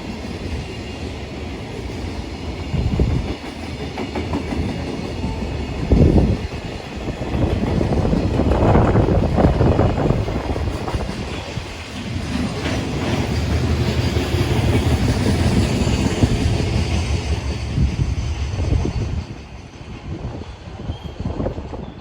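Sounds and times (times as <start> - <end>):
train wheels clattering: 0.0 - 22.0.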